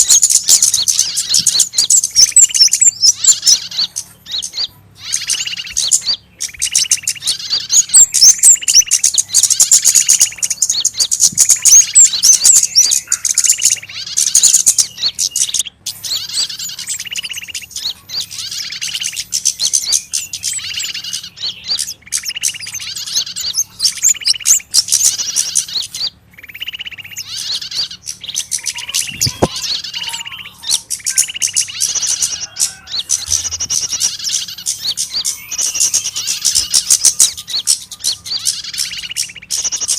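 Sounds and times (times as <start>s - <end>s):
repeated bird call: 0.0s - 39.9s
small birds chirping harshly: 0.0s - 39.9s.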